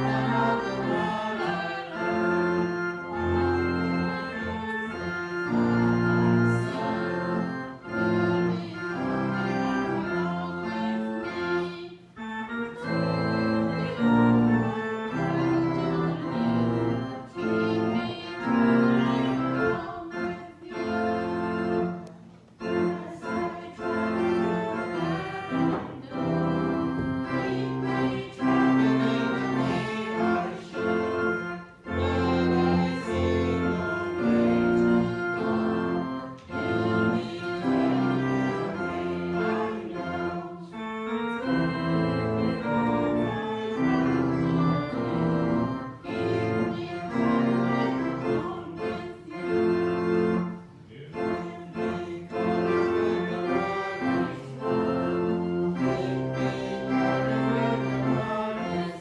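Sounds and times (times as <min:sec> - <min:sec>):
hymn on organ-like keyboard: 0:00.0 - 0:59.0.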